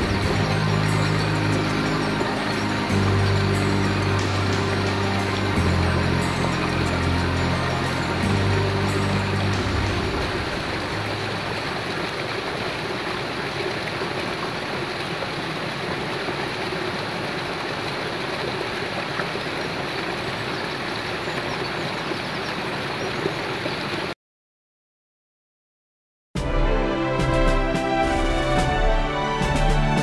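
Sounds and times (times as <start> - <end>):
stream running over stones: 0.0 - 24.1.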